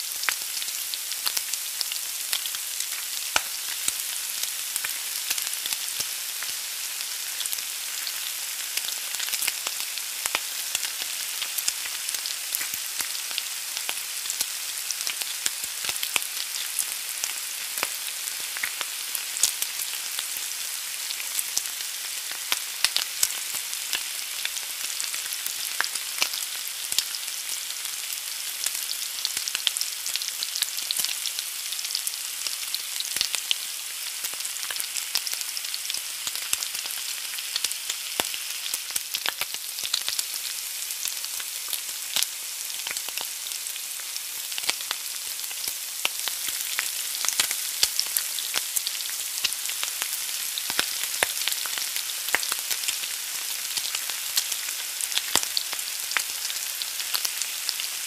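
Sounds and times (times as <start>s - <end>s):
egg sizzling in a hot pan: 0.0s - 58.0s.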